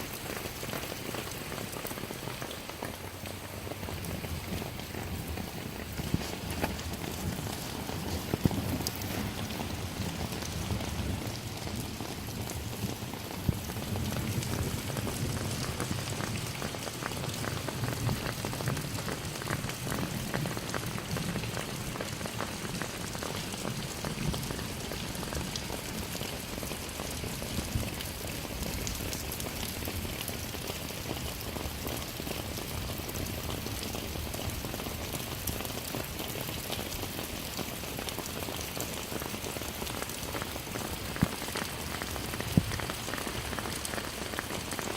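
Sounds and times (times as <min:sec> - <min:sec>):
rain pattering on surfaces: 0:00.0 - 0:44.9.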